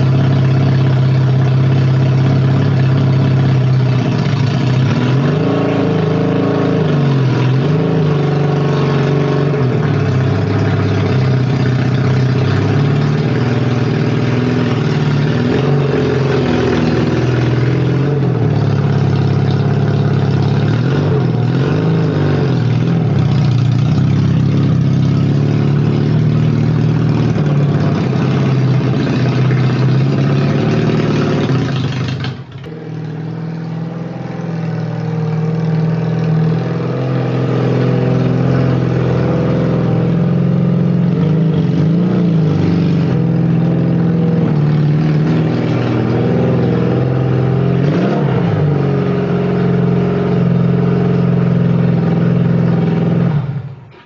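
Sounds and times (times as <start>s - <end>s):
small two-stroke car engine: 0.0s - 54.0s.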